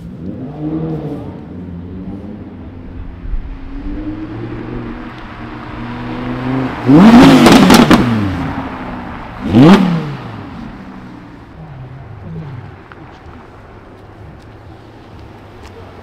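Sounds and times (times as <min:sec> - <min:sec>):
sports car engine revving: 0:00.0 - 0:13.6.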